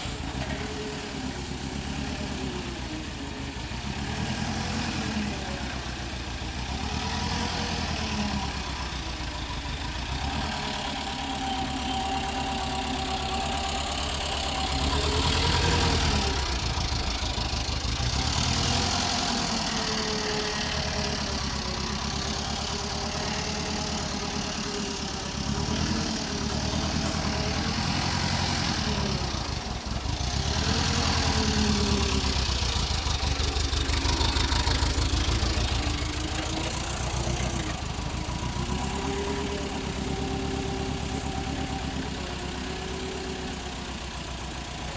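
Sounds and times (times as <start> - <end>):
forklift engine revving: 0.0 - 44.9.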